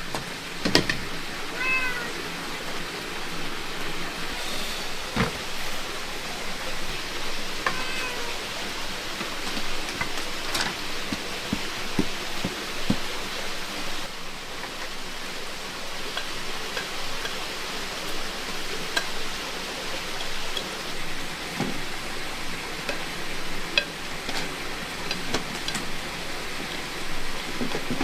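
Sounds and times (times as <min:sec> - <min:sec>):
heavy rain hissing: 0:00.0 - 0:28.0
raindrops tapping: 0:00.0 - 0:28.0.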